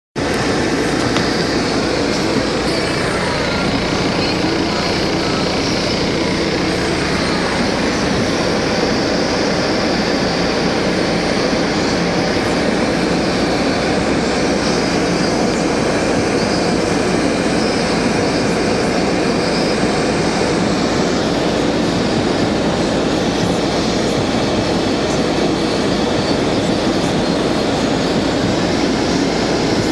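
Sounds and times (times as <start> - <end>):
car running noise: 0.2 - 29.9.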